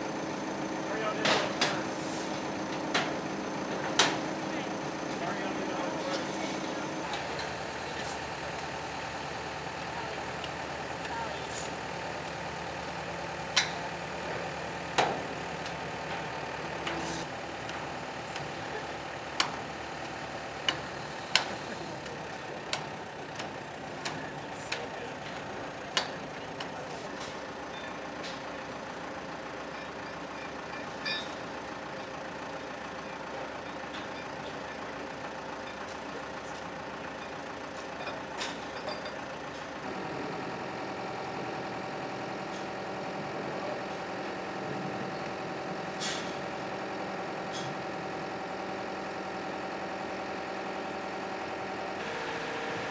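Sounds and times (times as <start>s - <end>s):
heavy engine idling: 0.0s - 52.9s.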